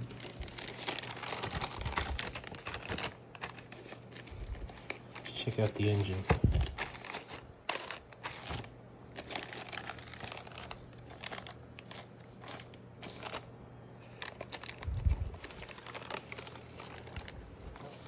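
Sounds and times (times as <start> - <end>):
wrapping crinkling and rustling: 0.0 - 18.0.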